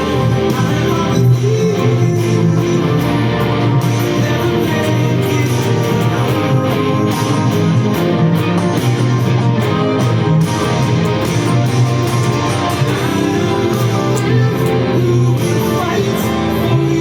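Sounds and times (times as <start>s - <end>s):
steady bass line: 0.0s - 17.0s
strummed guitar chords: 0.0s - 17.0s.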